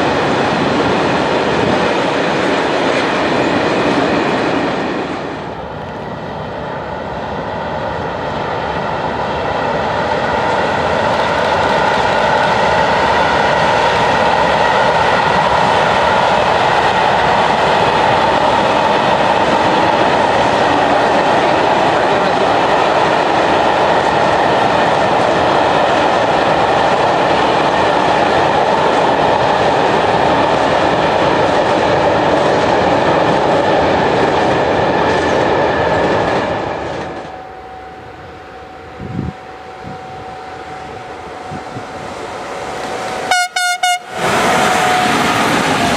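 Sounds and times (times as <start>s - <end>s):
train wheels rushing on rails: 0.0s - 45.9s.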